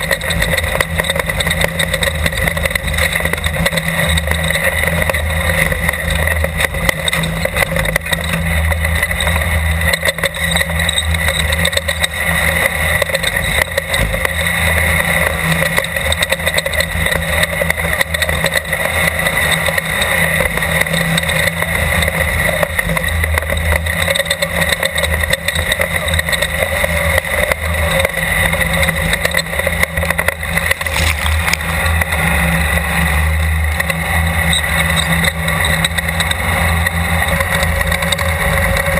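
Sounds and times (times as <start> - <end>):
car rattling over rough ground: 0.0 - 38.9
race car engine running hard: 0.0 - 38.9.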